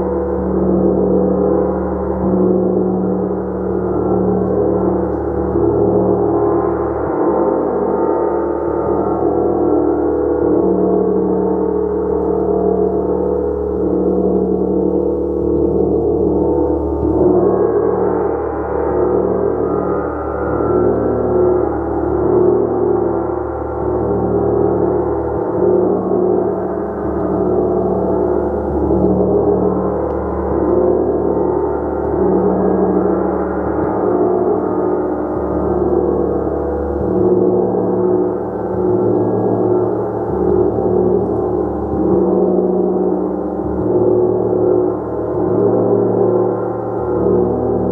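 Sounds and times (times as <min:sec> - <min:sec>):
gong sustained tones: 0:00.0 - 0:47.9.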